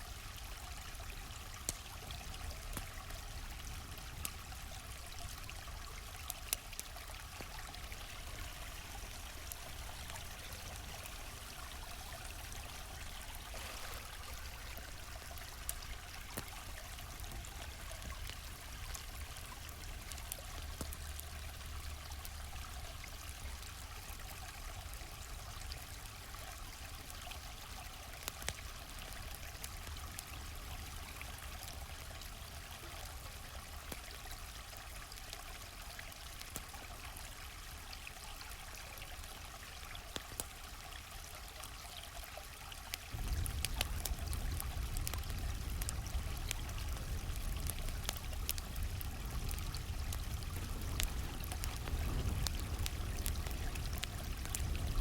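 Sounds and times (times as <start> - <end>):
campfire crackling and popping: 0.0 - 55.0
stream flowing: 0.0 - 55.0.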